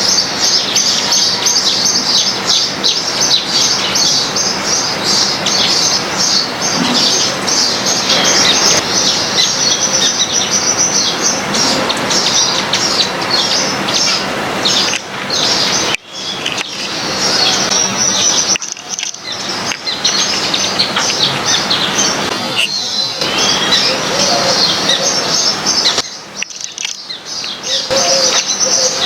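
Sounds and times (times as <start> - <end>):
rushing noise: 0.0 - 26.8
small birds chirping: 0.0 - 29.0.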